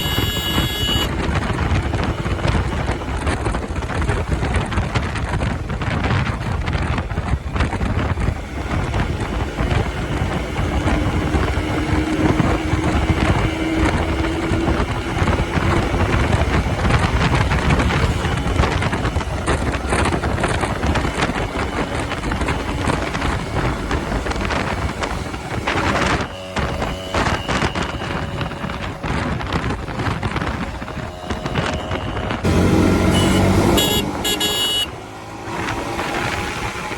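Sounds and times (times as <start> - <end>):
two-stroke engine running: 0.0 - 4.7, 9.4 - 35.3
wind noise on microphone: 0.0 - 36.9.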